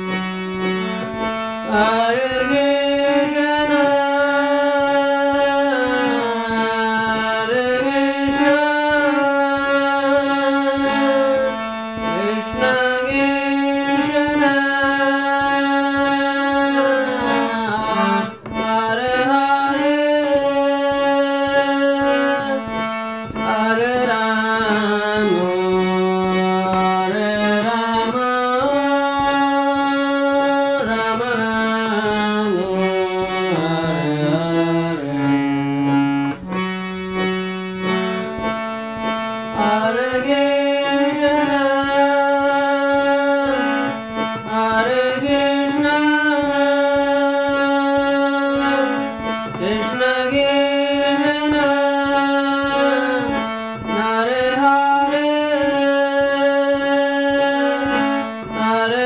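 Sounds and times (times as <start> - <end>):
harmonium slow melody: 0.0 - 59.0.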